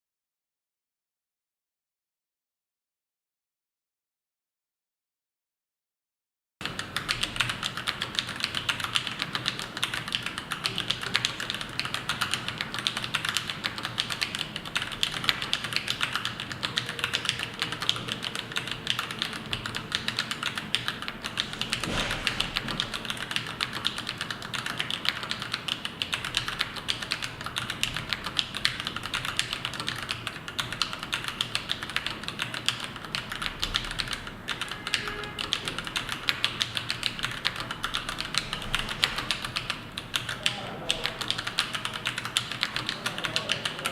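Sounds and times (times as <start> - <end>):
mechanical keyboard typing: 6.6 - 43.9.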